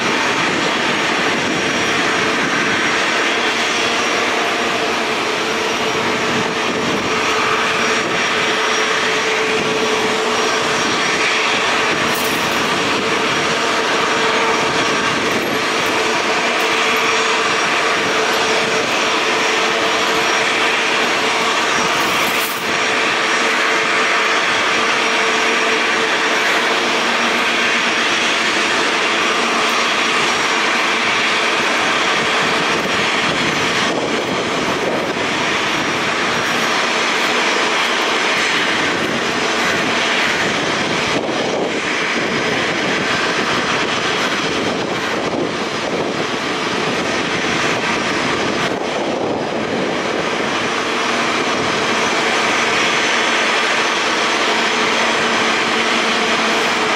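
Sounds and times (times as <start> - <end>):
jet engines taxiing: 0.0 - 56.9.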